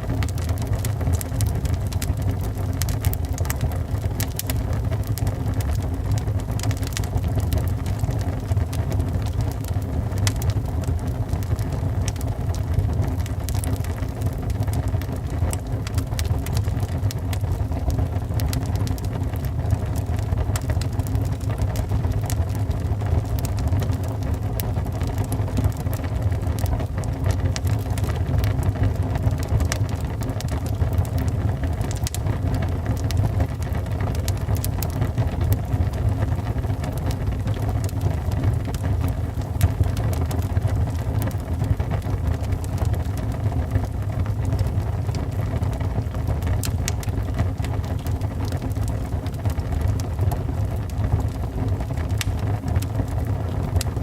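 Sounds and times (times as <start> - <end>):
fire flames rumbling: 0.0 - 54.0
wood crackling and popping: 0.0 - 54.0.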